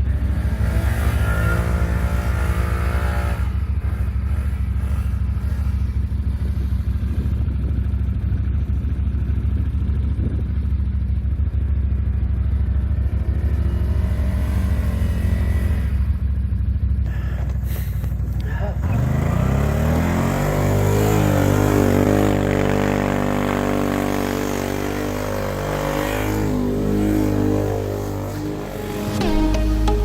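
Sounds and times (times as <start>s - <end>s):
atv engine droning: 0.0s - 30.0s.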